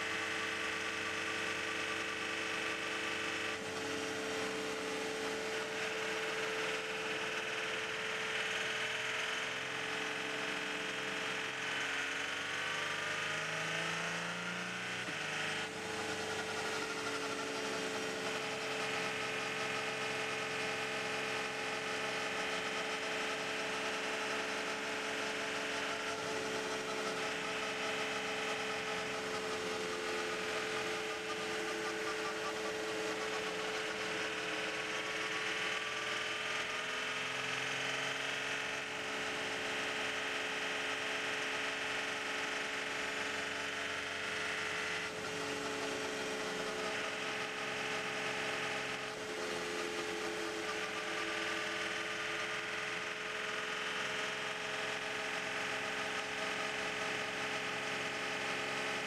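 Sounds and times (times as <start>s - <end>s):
car engine droning with whine: 0.0s - 59.0s.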